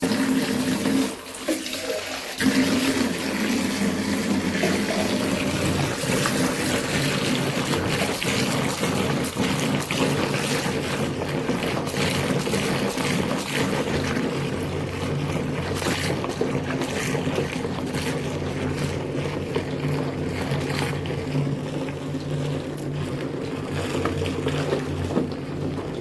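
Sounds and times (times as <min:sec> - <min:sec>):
water running and splashing: 0:00.0 - 0:26.0.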